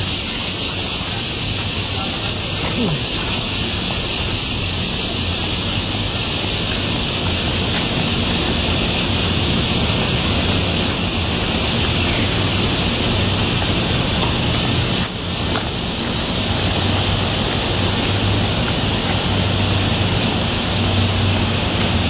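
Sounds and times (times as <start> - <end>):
vehicle road and wind noise: 0.0 - 22.0.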